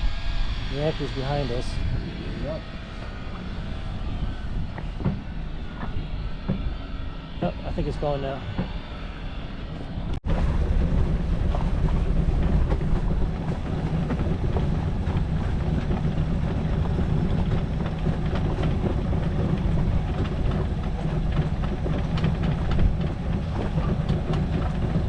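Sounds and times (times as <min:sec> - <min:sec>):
sailboat rumble and water wash: 0:00.0 - 0:25.0
wind buffeting microphone: 0:00.0 - 0:25.0.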